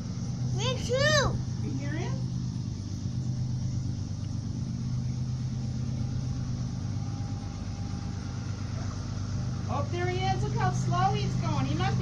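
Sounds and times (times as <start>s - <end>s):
train engine drone: 0.0s - 12.0s.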